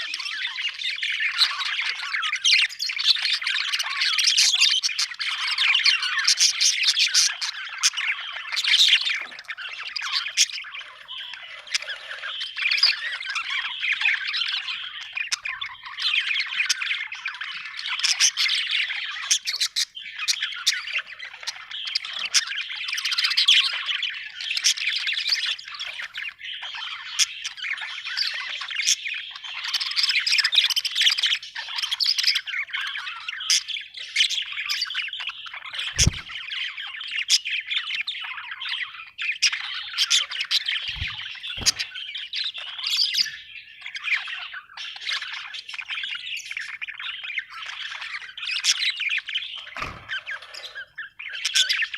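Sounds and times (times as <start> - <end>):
budgerigars chirping: 0.0 - 51.9.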